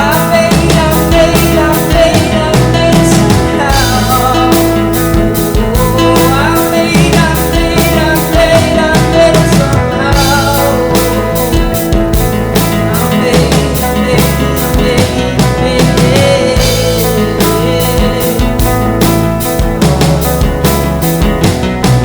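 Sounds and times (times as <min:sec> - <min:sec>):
drum kit beat: 0:00.0 - 0:22.0
guitar chords: 0:00.0 - 0:22.0
lead guitar bending line: 0:00.0 - 0:22.0
rock band playing: 0:00.0 - 0:22.0.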